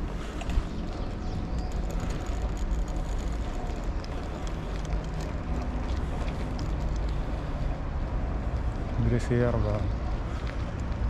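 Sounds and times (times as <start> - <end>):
bicycle clicks and rattles: 0.0 - 9.3
tyres on road: 0.0 - 11.0.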